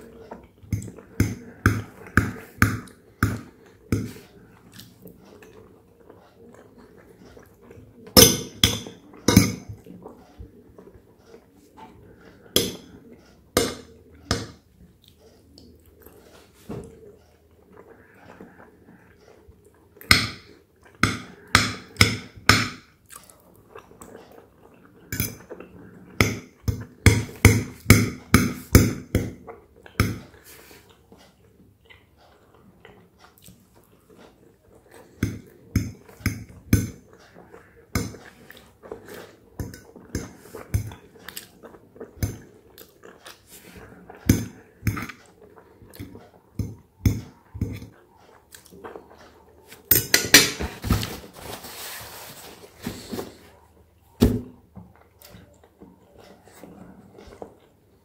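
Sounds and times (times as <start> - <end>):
person chewing soft food: 0.0 - 49.9, 50.9 - 58.0.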